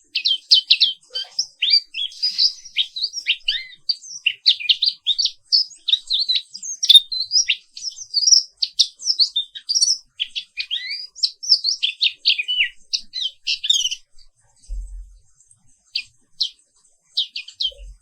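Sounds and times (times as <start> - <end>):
bird twittering song: 0.0 - 15.2, 15.8 - 18.0.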